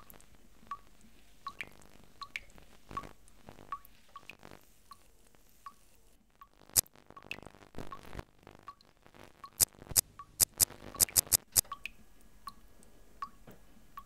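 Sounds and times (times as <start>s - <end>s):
water dripping: 0.0s - 5.8s, 6.4s - 13.4s.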